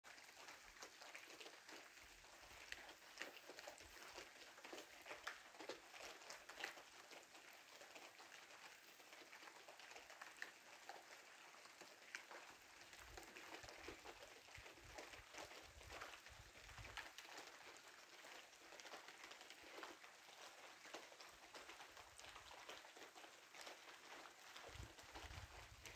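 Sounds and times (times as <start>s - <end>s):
heavy rain falling: 0.1s - 25.9s
raindrops ticking and pattering: 0.1s - 25.9s.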